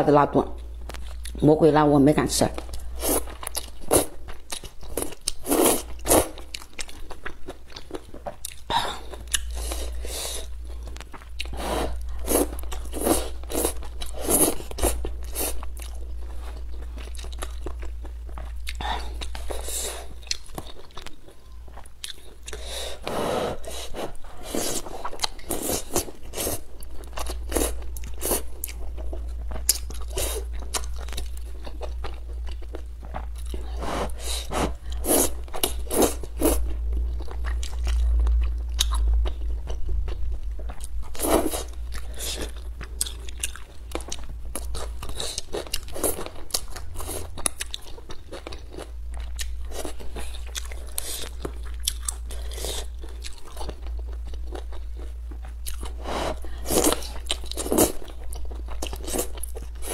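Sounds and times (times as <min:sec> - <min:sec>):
steady low hum: 0:00.0 - 0:59.9
person slurping and chewing noodles: 0:02.7 - 0:59.9.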